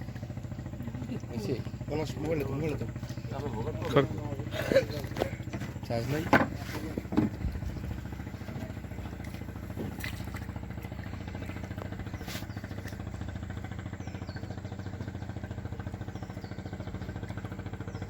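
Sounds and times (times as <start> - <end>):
engine puttering: 0.0 - 18.0.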